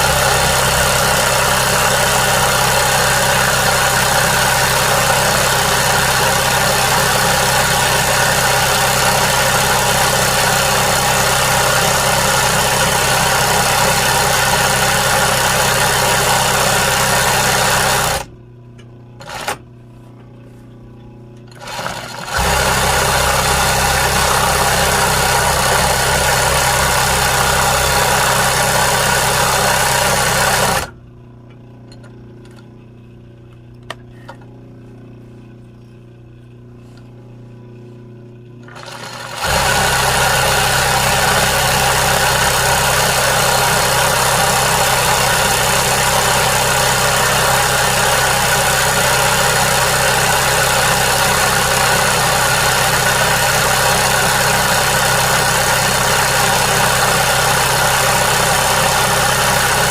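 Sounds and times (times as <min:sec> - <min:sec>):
embroidery sewing machine stitching: 0:00.0 - 0:18.3, 0:19.2 - 0:19.6, 0:21.5 - 0:30.9, 0:38.6 - 0:59.9.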